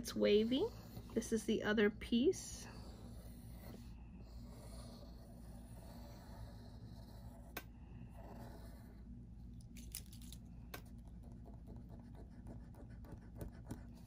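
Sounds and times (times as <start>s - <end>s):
pencil scratching on paper: 0.0s - 1.7s, 2.4s - 9.1s, 11.0s - 14.0s.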